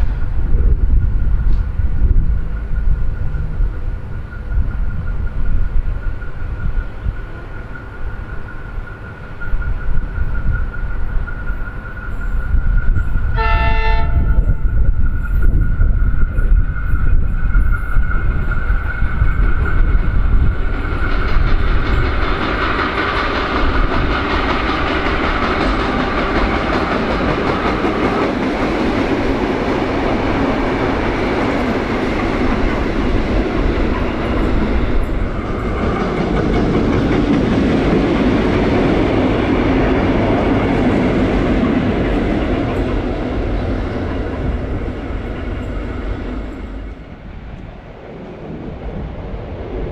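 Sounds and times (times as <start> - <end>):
electric train passing: 0.0 - 49.9.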